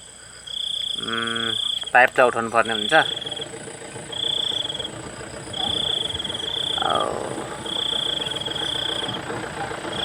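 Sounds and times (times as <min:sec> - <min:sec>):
high pulsed animal trills: 0:00.5 - 0:10.0.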